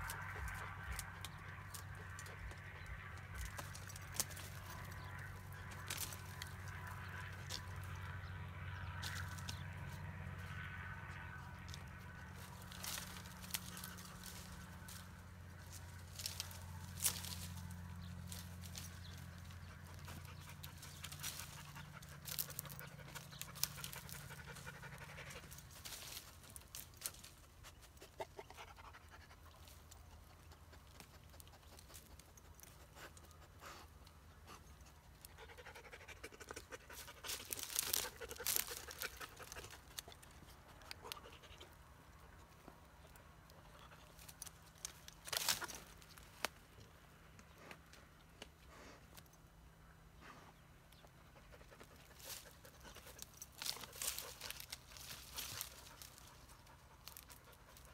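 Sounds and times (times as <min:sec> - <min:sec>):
twigs and branches crackling: 0:00.0 - 0:28.6, 0:29.3 - 0:35.4, 0:36.4 - 0:49.4, 0:50.9 - 0:57.9
dogs panting and sniffing: 0:00.0 - 0:57.9
low steady hum: 0:00.0 - 0:57.9.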